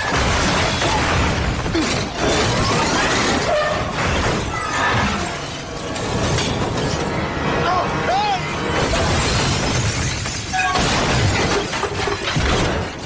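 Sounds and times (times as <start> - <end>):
shattering glass: 0.0 - 7.1, 8.8 - 13.0
crunching metal: 0.0 - 7.6, 8.5 - 13.0.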